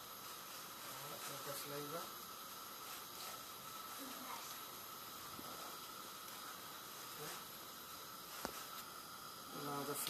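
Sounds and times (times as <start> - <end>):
faint background hiss: 0.0 - 10.0
thin steady tone: 0.0 - 10.0.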